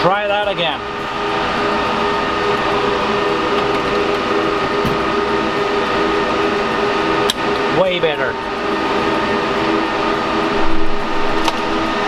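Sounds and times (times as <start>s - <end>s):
server cooling fans humming: 0.0s - 12.0s.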